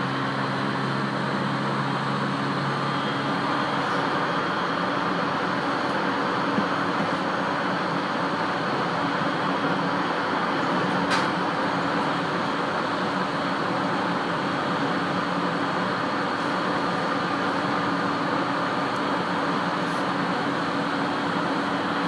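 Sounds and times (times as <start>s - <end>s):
train wheels on rail: 2.6s - 22.0s.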